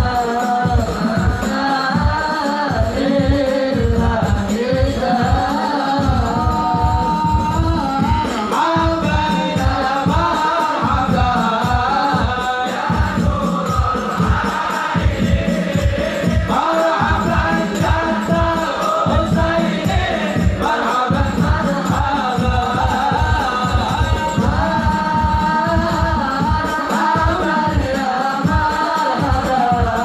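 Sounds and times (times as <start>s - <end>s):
frame drums beating: 0.0s - 30.0s
men chanting in unison: 0.0s - 30.0s.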